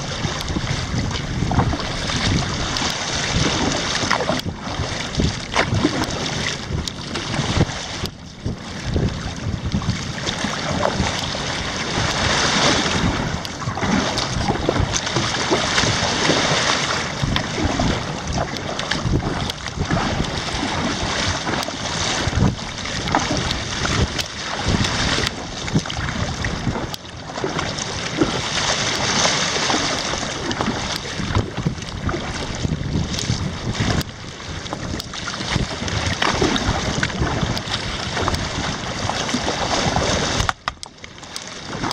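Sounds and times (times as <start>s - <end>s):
wind buffeting microphone: 0.0s - 40.9s
paddle splashing water: 0.0s - 41.9s.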